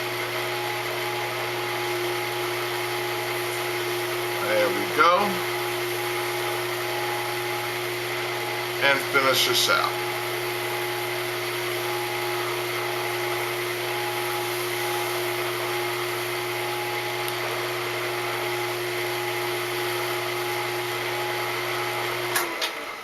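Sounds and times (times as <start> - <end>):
wood lathe motor hum and whine: 0.0 - 23.0.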